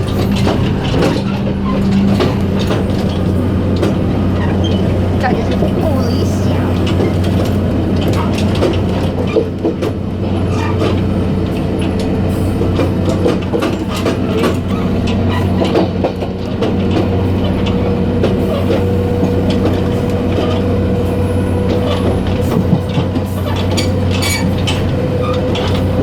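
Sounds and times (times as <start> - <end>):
diesel train drone: 0.0 - 26.0
knocks and rattles of train wheels: 0.0 - 26.0.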